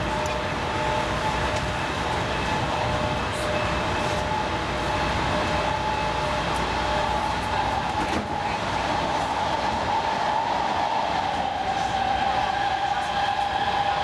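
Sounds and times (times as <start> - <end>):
constant train whine: 0.0 - 14.0
metro train rumble and rail noise: 0.0 - 14.0.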